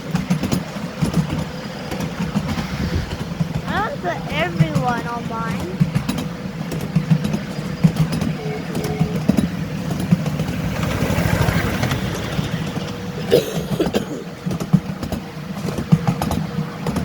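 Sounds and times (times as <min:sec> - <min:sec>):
miniature train engine pulsing: 0:03.3 - 0:17.0.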